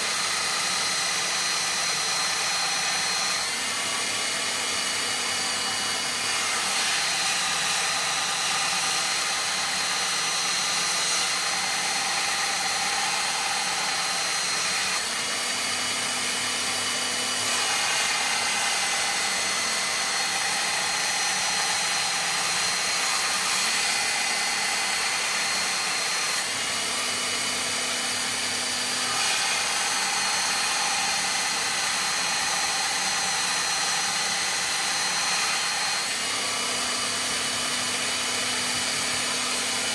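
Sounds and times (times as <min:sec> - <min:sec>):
belt sander running: 0:00.0 - 0:39.9.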